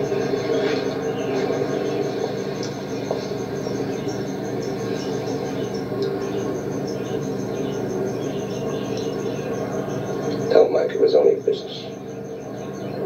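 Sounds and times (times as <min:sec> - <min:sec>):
cricket chirping: 0:00.0 - 0:13.0
low background hum: 0:00.0 - 0:13.0.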